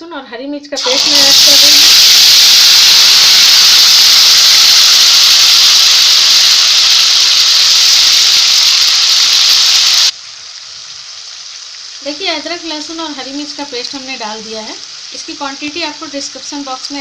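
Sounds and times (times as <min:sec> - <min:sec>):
paste sizzling in hot oil: 0:00.8 - 0:17.0.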